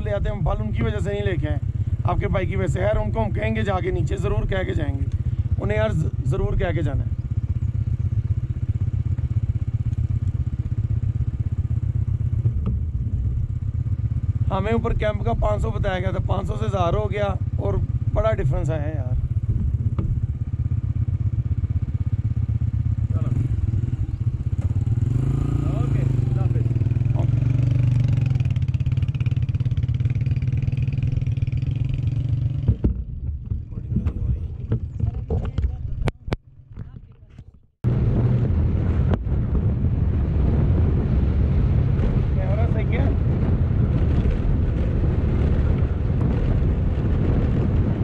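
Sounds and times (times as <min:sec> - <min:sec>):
motorcycle engine pulling away: 0:00.0 - 0:35.4, 0:37.8 - 0:48.0.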